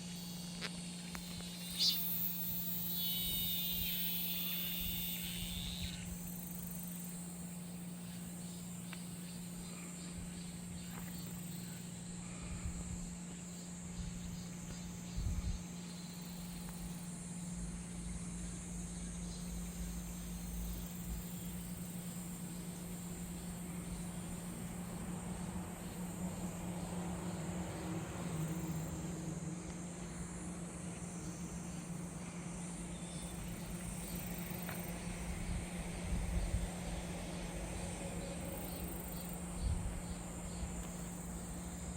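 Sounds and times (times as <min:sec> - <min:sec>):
cicadas buzzing: 0:00.0 - 0:41.9
steady low hum: 0:00.0 - 0:41.9.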